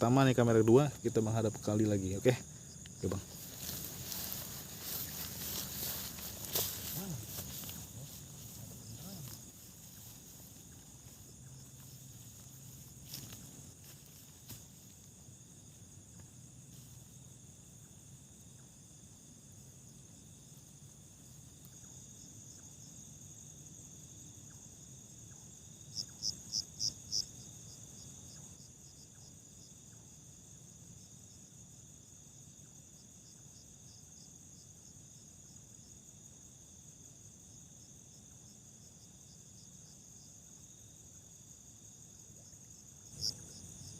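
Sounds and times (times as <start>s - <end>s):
crickets chirring: 0.0s - 43.9s.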